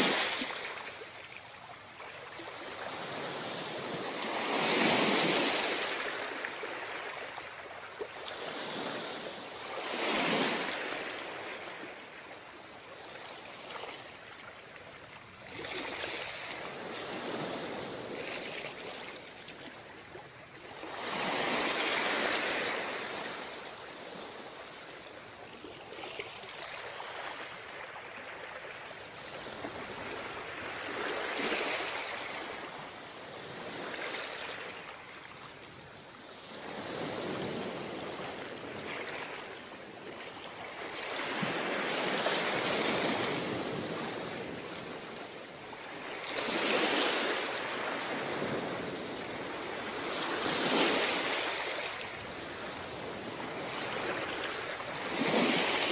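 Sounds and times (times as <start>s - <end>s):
ocean waves breaking on beach: 0.0s - 55.9s.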